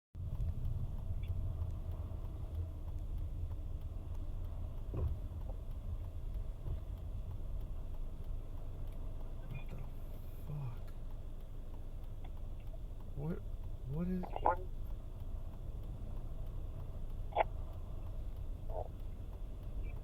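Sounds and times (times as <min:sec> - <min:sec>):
car engine and tyres rumbling: 0:00.1 - 0:20.0.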